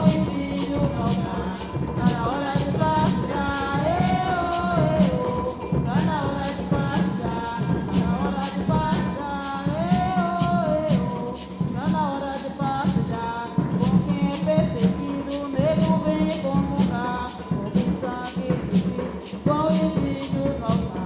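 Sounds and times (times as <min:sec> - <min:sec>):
person singing a melody: 0:00.0 - 0:21.0
steady percussion: 0:00.0 - 0:21.0.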